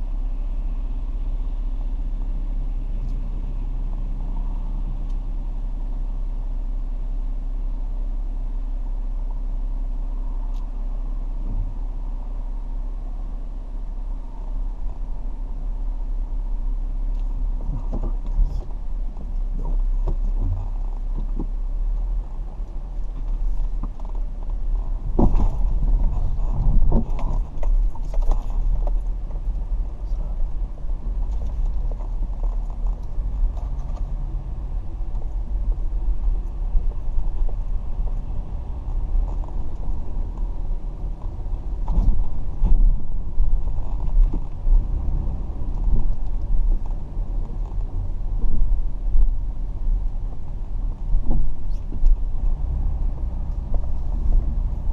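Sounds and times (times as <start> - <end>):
car driving rumble: 0.0 - 54.9.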